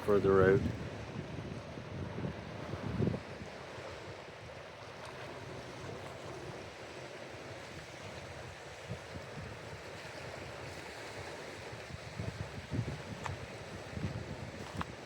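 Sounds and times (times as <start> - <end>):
water at the shoreline: 0.0 - 15.0
wind: 0.0 - 15.0
wind buffeting the microphone: 0.0 - 15.0.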